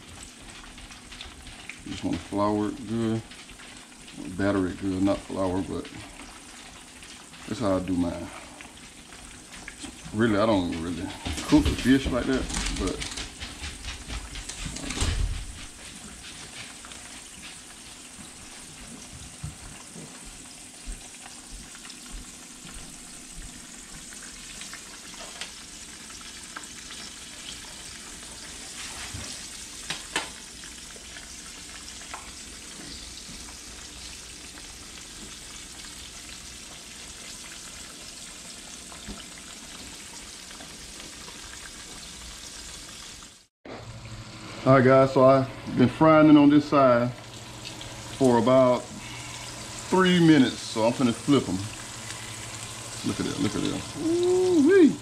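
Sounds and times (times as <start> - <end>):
fish frying in hot grease: 0.0 - 55.0.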